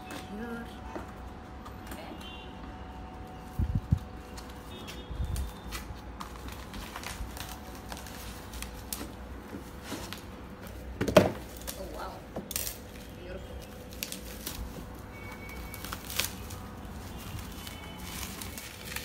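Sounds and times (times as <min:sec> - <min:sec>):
bubble wrap rustling: 0:03.2 - 0:19.0.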